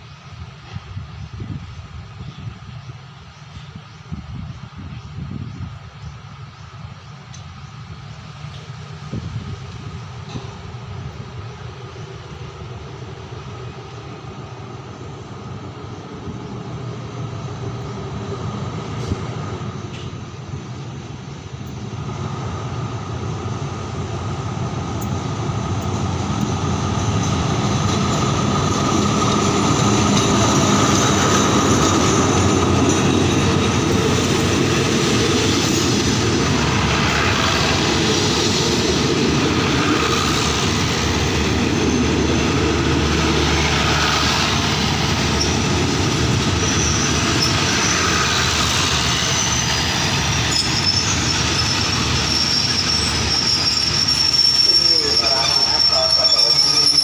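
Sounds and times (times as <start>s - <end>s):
diesel locomotive hauling train: 0.0s - 57.0s.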